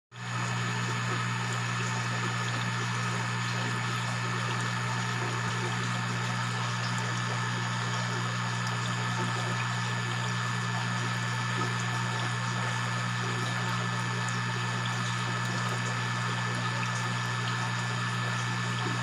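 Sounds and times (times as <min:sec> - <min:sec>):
low machine hum: 0:00.2 - 0:19.0.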